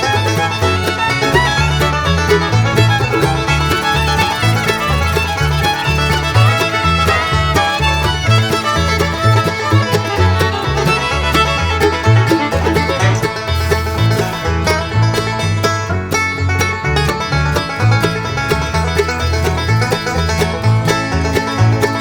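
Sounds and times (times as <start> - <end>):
banjo: 0.0 - 22.0
fiddle: 0.0 - 22.0
walking bass line: 0.0 - 22.0.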